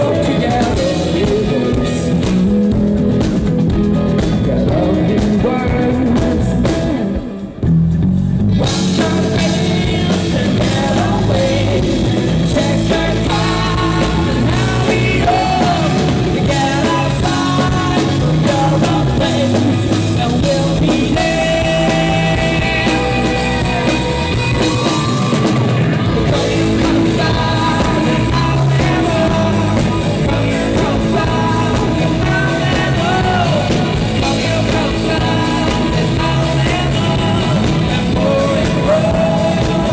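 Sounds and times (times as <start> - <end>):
person singing lead vocal: 0.0 - 7.7, 8.5 - 39.9
rock band playing: 0.0 - 39.9.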